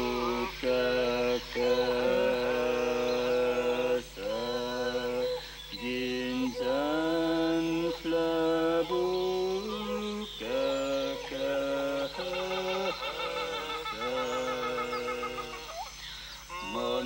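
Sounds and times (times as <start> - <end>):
chanting in long sung notes: 0.0 - 17.0.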